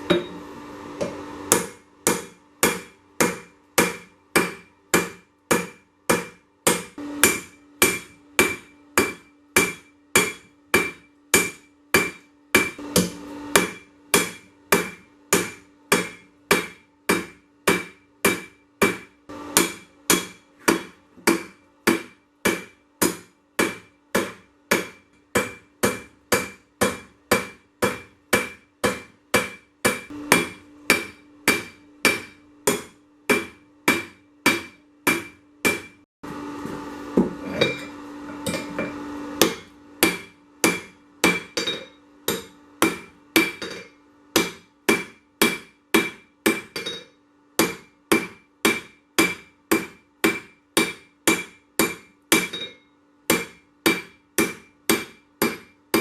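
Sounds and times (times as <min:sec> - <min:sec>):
hammer blows on an anvil: 0:00.0 - 0:00.4, 0:01.5 - 0:36.0, 0:37.2 - 0:56.0.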